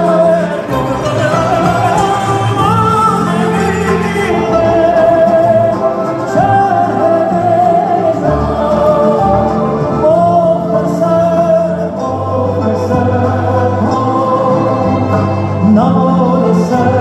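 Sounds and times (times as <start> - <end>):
bass notes: 0.0 - 17.0
man singing: 0.0 - 17.0
piano: 0.0 - 17.0.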